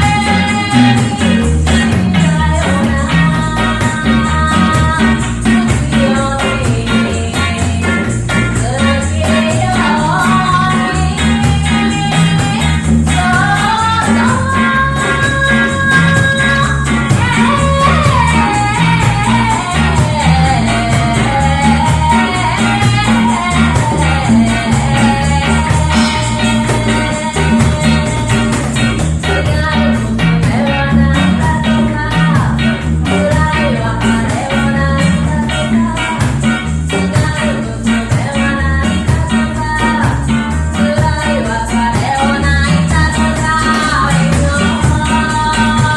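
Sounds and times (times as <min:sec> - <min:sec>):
bass line: 0:00.0 - 0:45.9
guitar: 0:00.0 - 0:45.9
person singing: 0:00.0 - 0:45.9
reggae band playing: 0:00.0 - 0:45.9.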